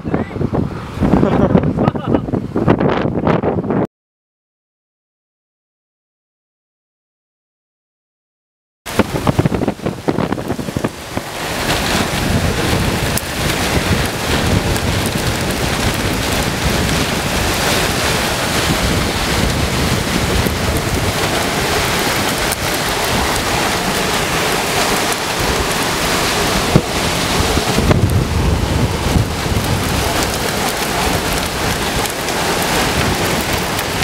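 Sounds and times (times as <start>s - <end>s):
heavy wind-driven rain hiss: 0.0s - 3.8s, 8.9s - 34.0s
wind rumble on microphone: 0.0s - 3.9s, 8.9s - 34.0s.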